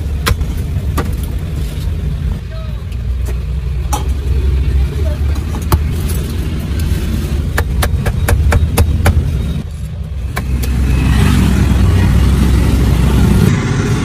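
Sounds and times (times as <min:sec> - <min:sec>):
street traffic rumbling: 0:00.0 - 0:14.0.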